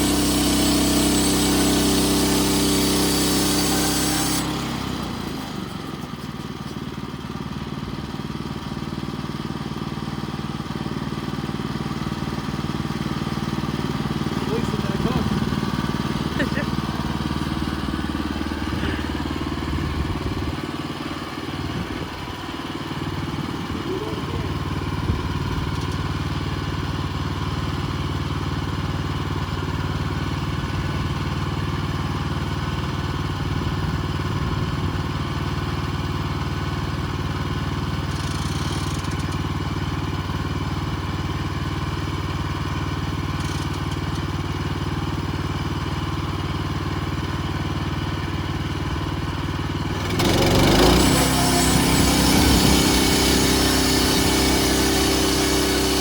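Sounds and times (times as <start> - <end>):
sawmill gasoline engine running: 0.0 - 56.0.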